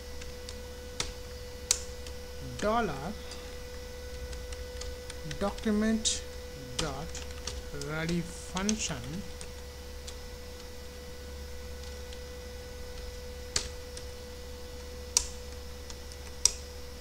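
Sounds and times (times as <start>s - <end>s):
electrical hum: 0.0s - 17.0s
faint constant whine: 0.0s - 17.0s.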